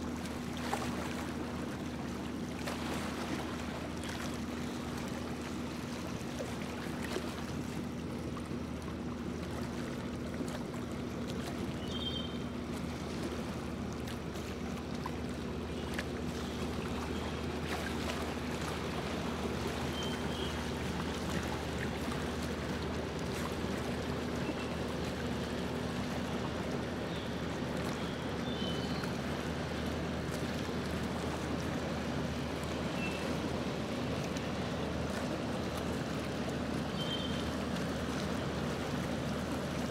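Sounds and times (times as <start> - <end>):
motorboat engine droning: 0.0 - 39.9
water rushing along hull: 0.0 - 39.9.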